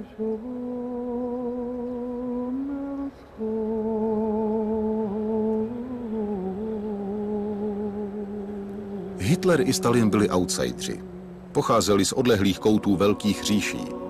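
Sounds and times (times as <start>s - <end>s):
person humming: 0.0s - 14.0s.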